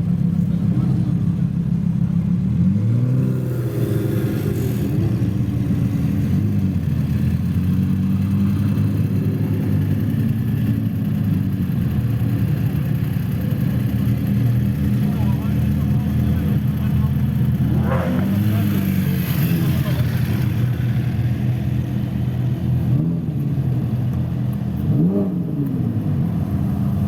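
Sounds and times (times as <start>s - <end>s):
sports car engines running: 0.0s - 27.0s.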